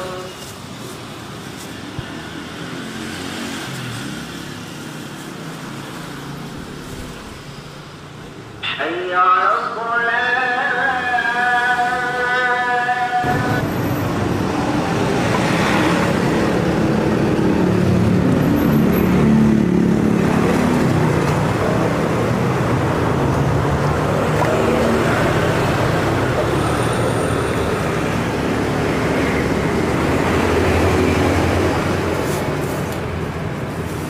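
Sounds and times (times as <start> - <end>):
passing vehicle engines: 0.0 - 34.0.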